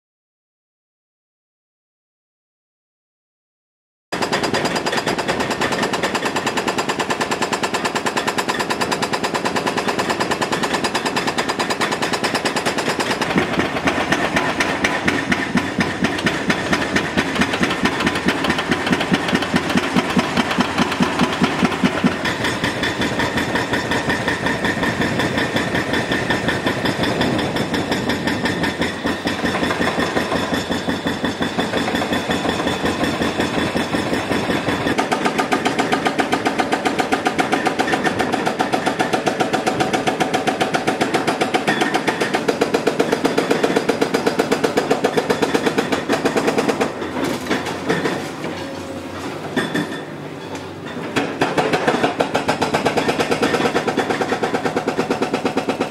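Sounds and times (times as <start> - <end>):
hydraulic breaker hammering concrete: 4.2 - 55.9.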